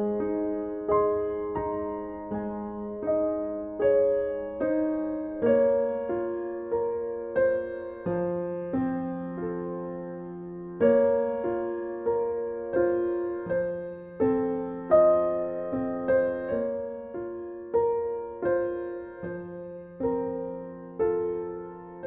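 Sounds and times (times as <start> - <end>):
soft piano music: 0.0 - 22.0.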